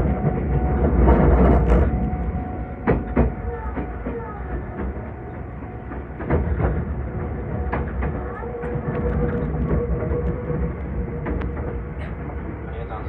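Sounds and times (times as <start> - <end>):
electric train rumble and whine: 0.0 - 13.0
wheels clicking over rail joints: 0.0 - 13.0.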